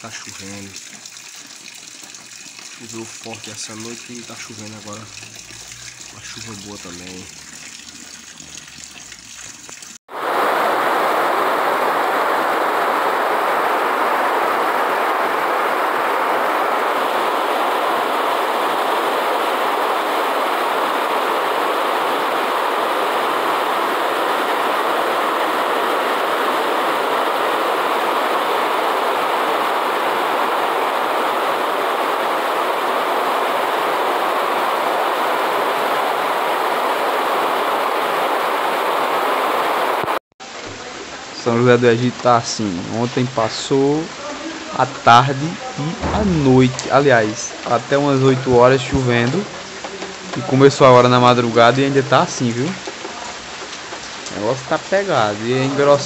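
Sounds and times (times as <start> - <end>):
heavy rain pouring: 2.7 - 7.8, 10.0 - 56.0.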